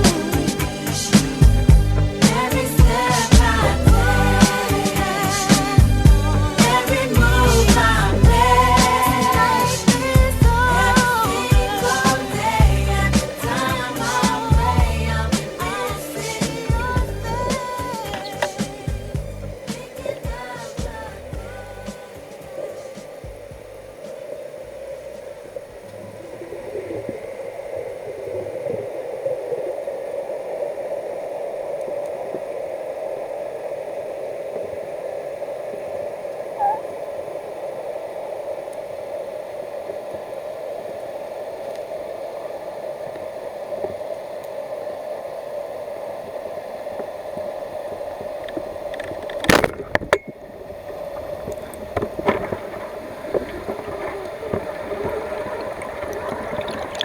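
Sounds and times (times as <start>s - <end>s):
muffled underwater hum with gurgling: 0.0s - 57.0s.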